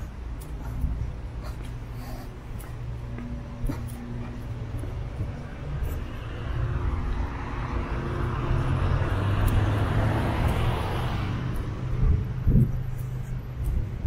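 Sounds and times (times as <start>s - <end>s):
low engine hum: 0.0s - 14.0s
passing road noise: 0.0s - 14.0s.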